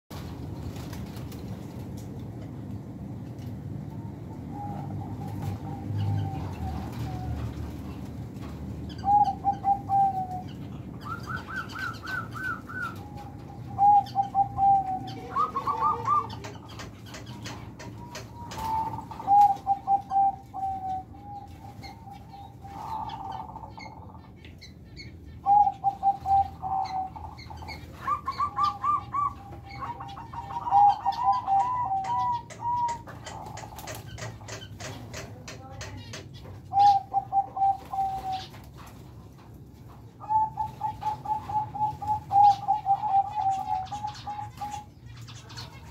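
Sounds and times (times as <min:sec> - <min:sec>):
doves cooing: 0:00.1 - 0:45.9.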